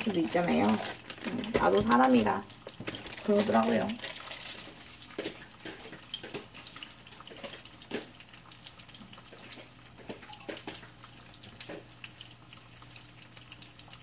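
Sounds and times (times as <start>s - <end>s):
cooking clicks and knocks: 0.0s - 14.0s.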